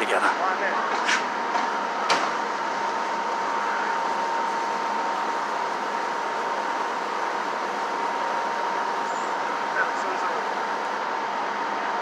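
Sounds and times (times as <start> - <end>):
thin constant whine: 0.0 - 12.0.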